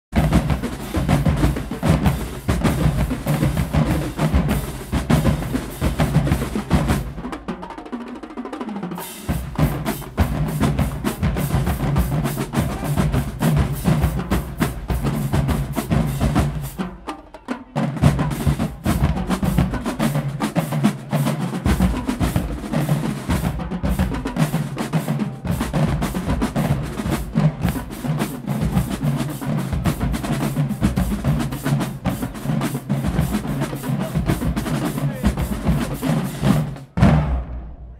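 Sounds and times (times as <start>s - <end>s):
marching drumline cadence: 0.1s - 37.9s.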